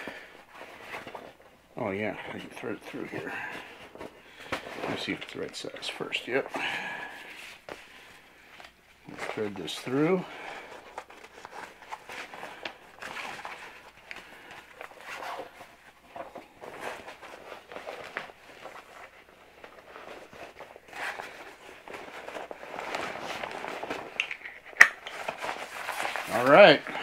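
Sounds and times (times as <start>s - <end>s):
fabric rustling and scraping: 0.0s - 27.0s.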